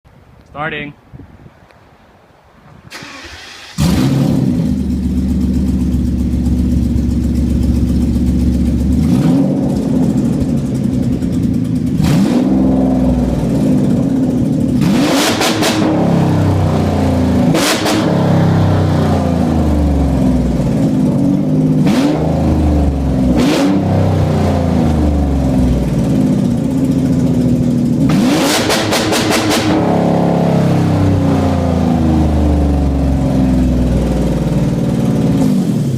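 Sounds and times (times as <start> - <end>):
loud car engine idling and revving: 2.9 - 35.9.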